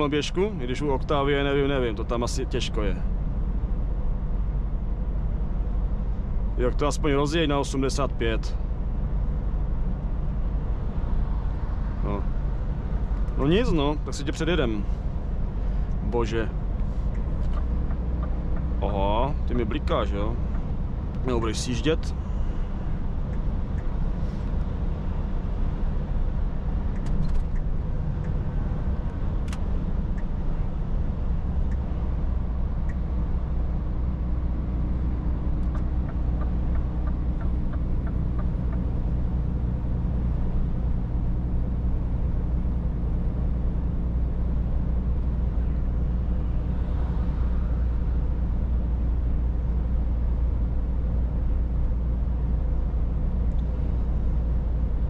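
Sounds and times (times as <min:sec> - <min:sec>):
road noise inside cab: 0:00.0 - 0:55.0
truck diesel engine drone: 0:00.0 - 0:55.0.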